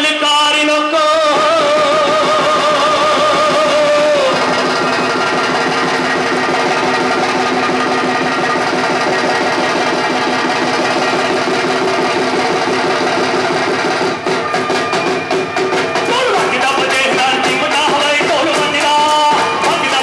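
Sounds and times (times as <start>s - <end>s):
folk dance music with fast beat: 0.0s - 20.0s
sharp percussive strikes: 1.1s - 20.0s.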